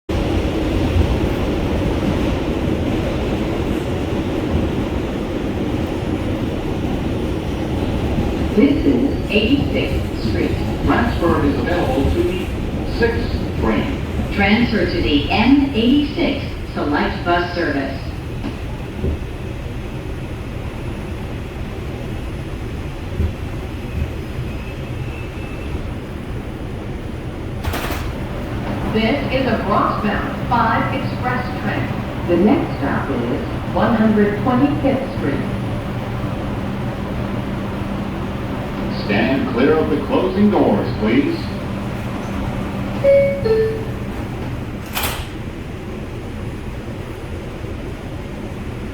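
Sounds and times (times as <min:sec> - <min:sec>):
subway train rumbling: 0:00.1 - 0:48.9.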